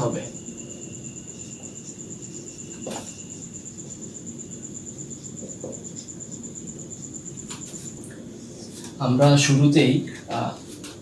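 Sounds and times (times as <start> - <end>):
cricket trilling: 0.0 - 11.0.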